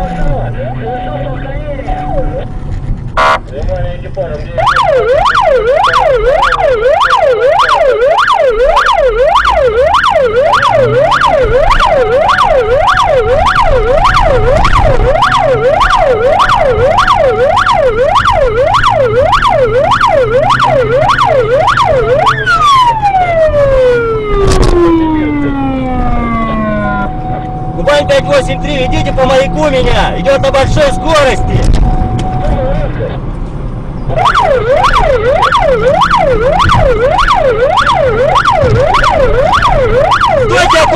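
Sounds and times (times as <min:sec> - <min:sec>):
electronic siren yelping: 0:04.6 - 0:32.7, 0:34.1 - 0:40.9.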